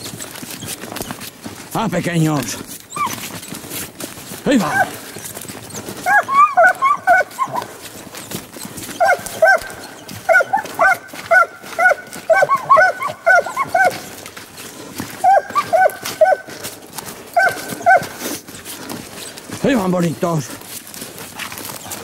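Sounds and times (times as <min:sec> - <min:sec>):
hound pups yelping: 0:00.0 - 0:01.6, 0:02.7 - 0:03.8, 0:04.4 - 0:19.5
footsteps through brush and mud: 0:00.0 - 0:22.0.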